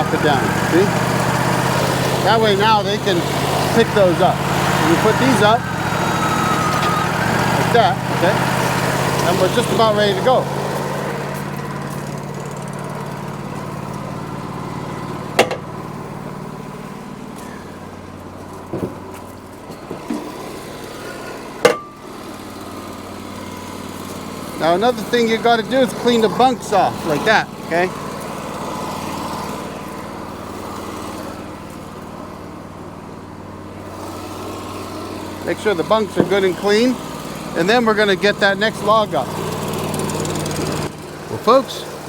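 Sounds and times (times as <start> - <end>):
sawmill engine idling: 0.0 - 42.0.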